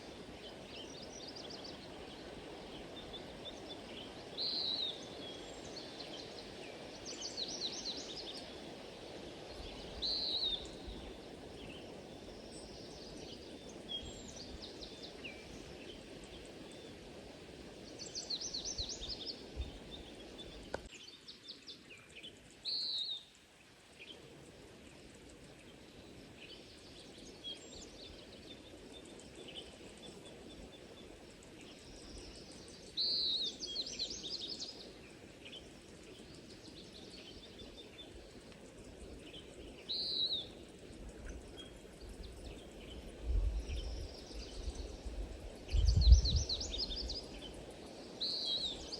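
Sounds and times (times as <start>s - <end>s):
low steady background noise: 0.0s - 48.9s.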